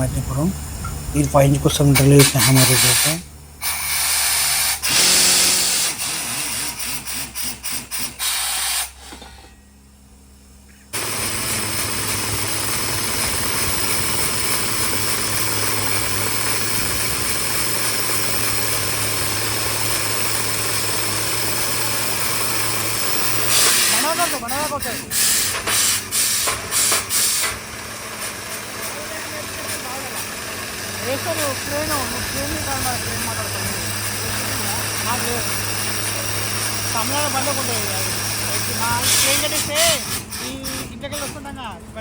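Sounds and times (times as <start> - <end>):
drilling rig engine running: 0.0 - 42.0.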